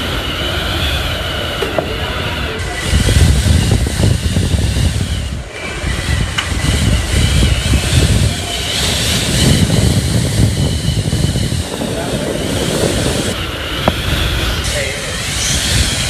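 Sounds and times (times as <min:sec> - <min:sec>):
strong wind gusts buffeting microphone: 0:00.0 - 0:16.0.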